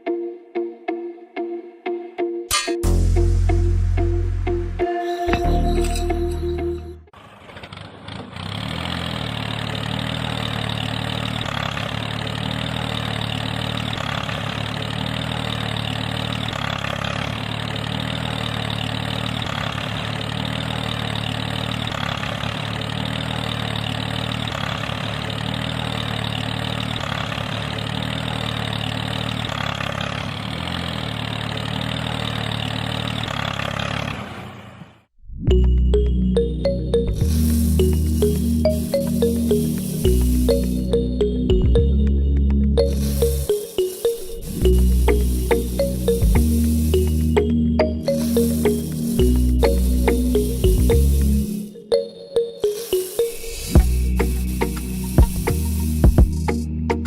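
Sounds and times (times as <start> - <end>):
small engine running: 5.4 - 35.1, 36.4 - 41.9, 42.8 - 52.0, 52.6 - 56.6.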